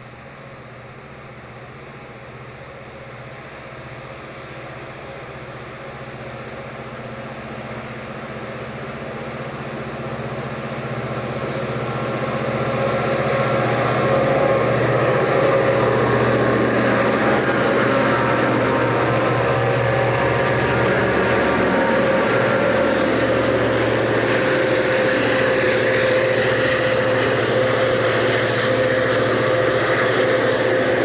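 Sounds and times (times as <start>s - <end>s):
diesel locomotive engines droning: 0.0s - 31.0s.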